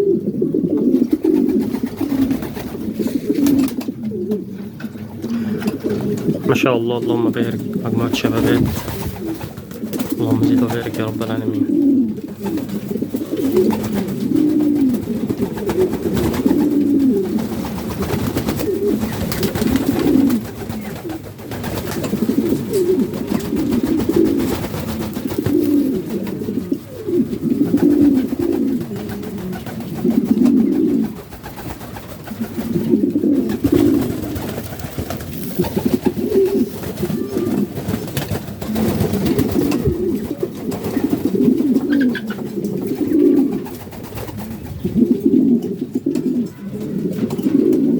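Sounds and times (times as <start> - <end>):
pigeons cooing: 0.0 - 47.9.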